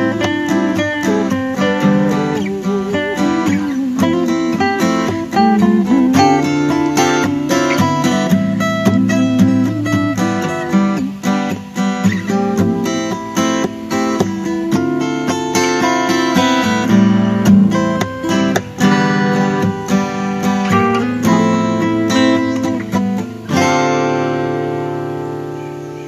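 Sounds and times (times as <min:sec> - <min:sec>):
acoustic guitars playing: 0:00.0 - 0:26.0.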